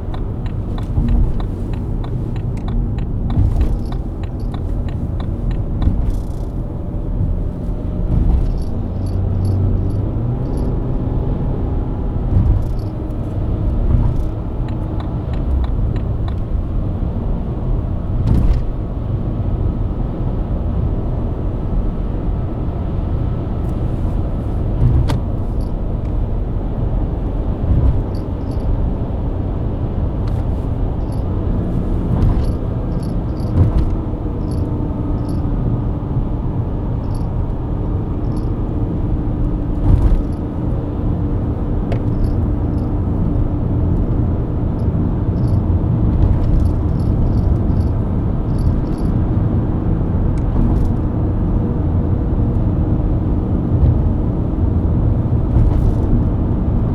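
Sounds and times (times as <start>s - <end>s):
tyre and road rumble: 0.0s - 19.6s, 21.9s - 56.9s
car engine cruising: 0.0s - 56.9s.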